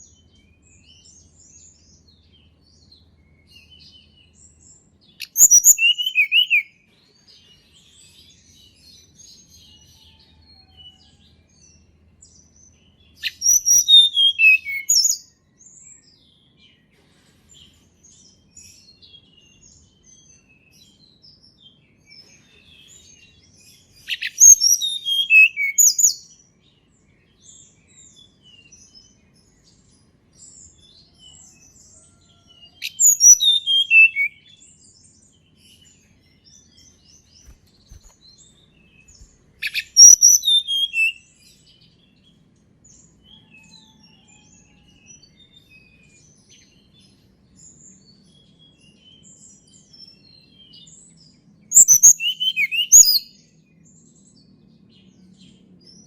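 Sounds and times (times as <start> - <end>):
faint bird chirps: 0.0 - 56.0.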